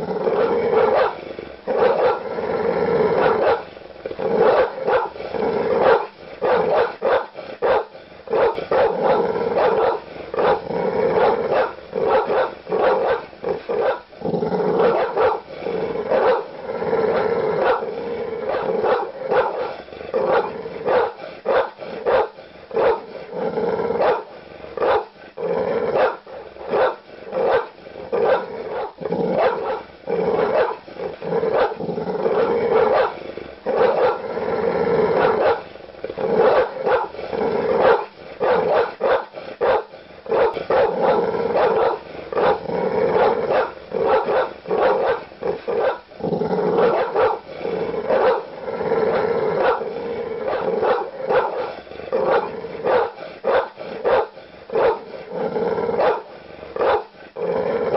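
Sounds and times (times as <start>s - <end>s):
large dog barking: 0.0s - 2.4s, 3.0s - 14.1s, 14.7s - 23.2s, 23.8s - 25.2s, 25.8s - 34.3s, 35.0s - 57.9s
dog growling: 0.0s - 57.9s.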